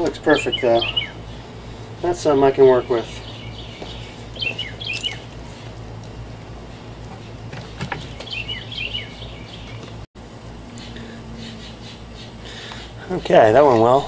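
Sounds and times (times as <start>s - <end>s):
small birds chirping: 0.0s - 10.0s, 10.7s - 14.0s
steady low hum: 0.0s - 14.0s.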